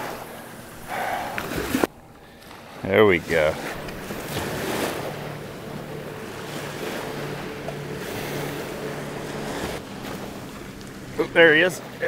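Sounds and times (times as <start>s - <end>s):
motorboat engine hum: 0.0s - 12.0s
small waves washing on sand: 0.0s - 12.0s.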